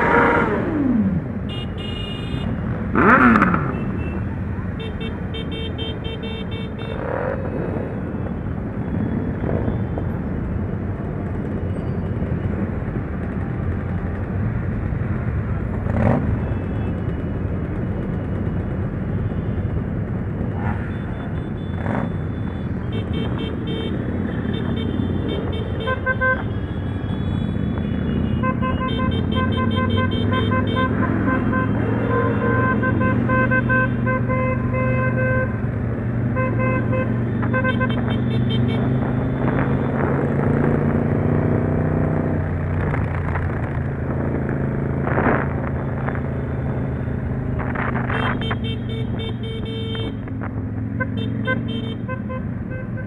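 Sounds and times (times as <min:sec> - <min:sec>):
motorcycle engines running: 0:06.5 - 0:53.0.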